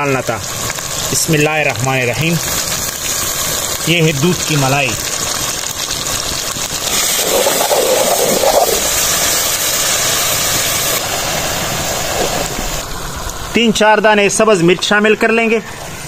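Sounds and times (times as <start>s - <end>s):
meat sizzling in a pot: 0.0s - 13.5s.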